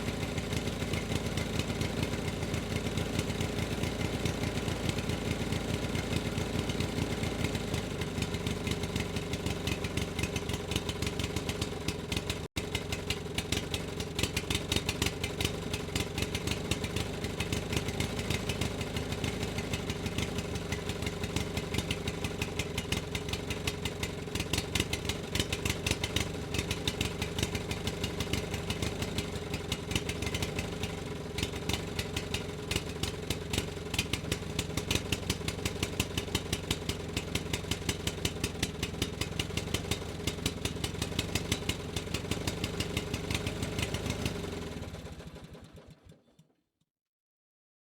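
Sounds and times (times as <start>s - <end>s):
engine idling: 0.0s - 46.3s.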